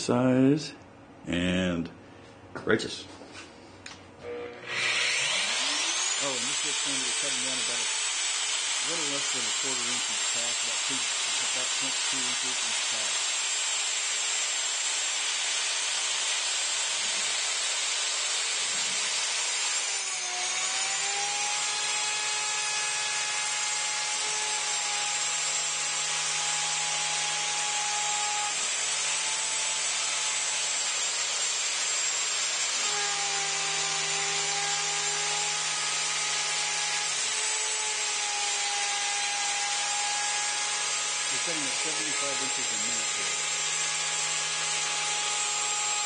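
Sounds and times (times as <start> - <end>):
bit cutting wood: 4.2 - 46.0
router spindle whine: 4.2 - 46.0.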